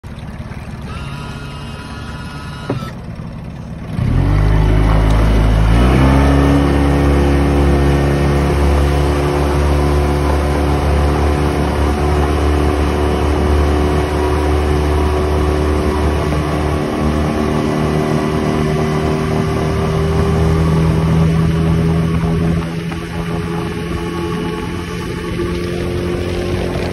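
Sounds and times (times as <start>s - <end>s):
outboard motor running: 0.0s - 26.9s
water rushing past hull: 4.1s - 26.9s.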